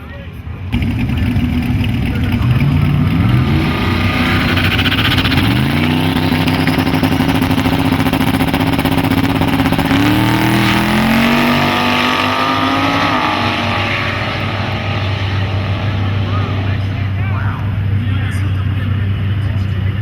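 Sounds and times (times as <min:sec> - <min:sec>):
drag car engine at full throttle: 0:00.0 - 0:20.0
second car engine revving: 0:00.7 - 0:20.0.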